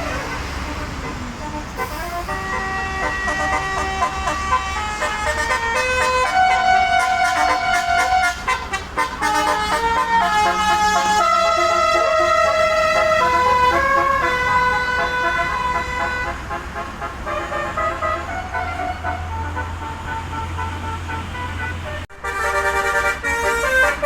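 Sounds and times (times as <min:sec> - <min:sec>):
bus engine idling: 0:00.0 - 0:24.0
bus horn playing melody: 0:00.0 - 0:24.0.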